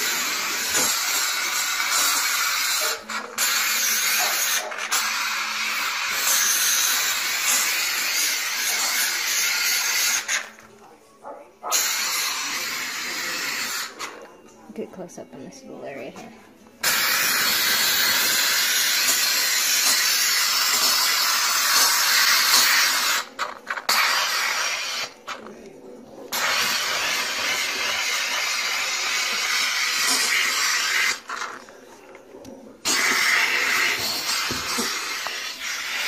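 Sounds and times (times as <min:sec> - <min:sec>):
steam cleaner hissing: 0:00.0 - 0:10.4, 0:11.7 - 0:14.0, 0:16.8 - 0:25.2, 0:26.3 - 0:31.3, 0:32.8 - 0:36.0.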